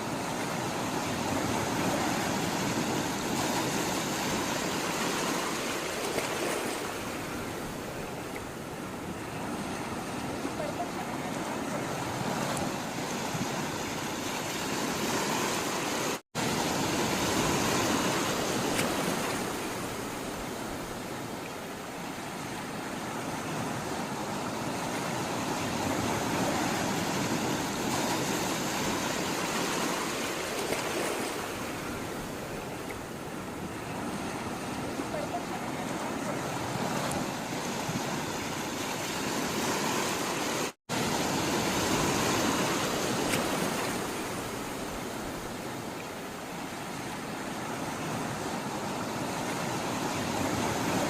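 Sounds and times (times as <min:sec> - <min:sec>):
sea water rushing: 0:00.0 - 0:51.0.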